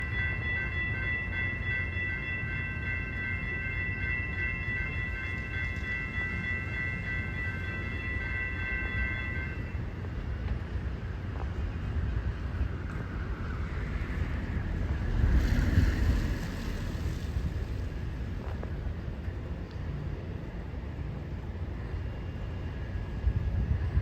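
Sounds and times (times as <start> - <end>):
train rumbling by: 0.0 - 24.0.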